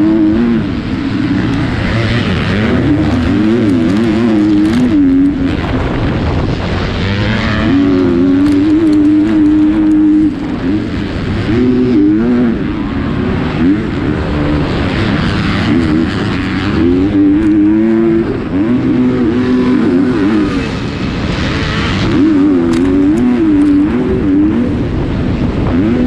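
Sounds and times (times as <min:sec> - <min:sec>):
motorbike engine revving: 0:00.0 - 0:26.0.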